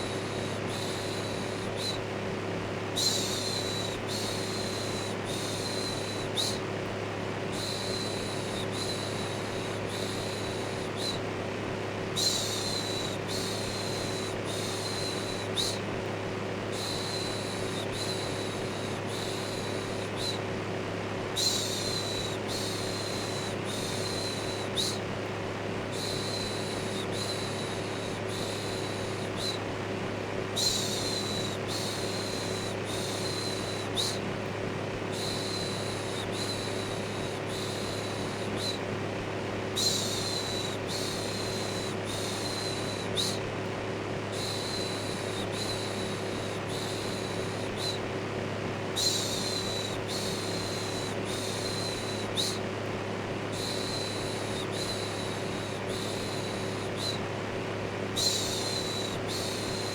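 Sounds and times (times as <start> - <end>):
electric fan motor hum: 0.0 - 59.9.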